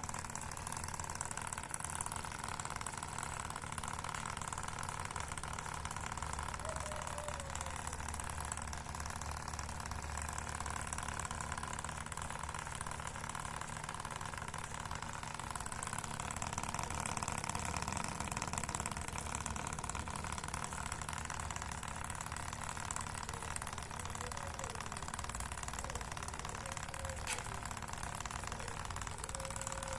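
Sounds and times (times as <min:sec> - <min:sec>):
model engine mechanical buzz: 0:00.0 - 0:29.9.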